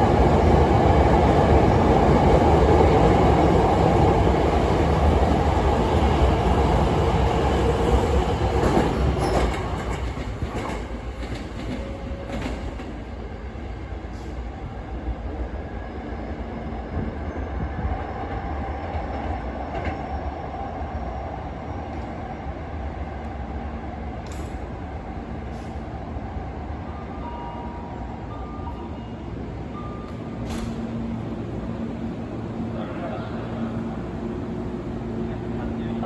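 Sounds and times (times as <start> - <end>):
electric train rumbling on track: 0.0 - 36.0.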